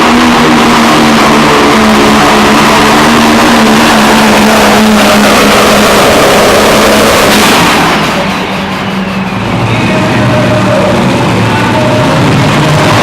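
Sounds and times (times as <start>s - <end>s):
tractor engine running loud: 0.0s - 13.0s.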